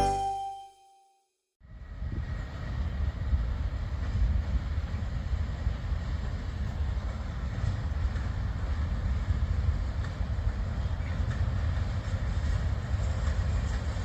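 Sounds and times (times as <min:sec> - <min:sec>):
train wheels rumbling on rail: 0:01.8 - 0:14.0.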